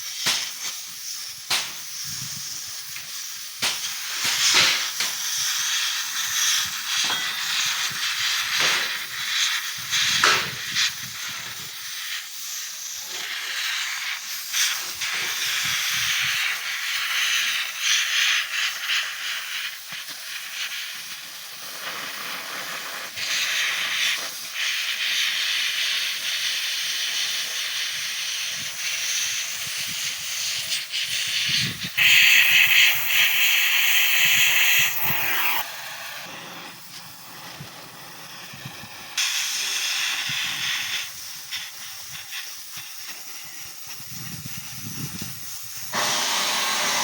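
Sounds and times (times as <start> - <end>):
gas cutting torch hissing: 0.0 - 47.0.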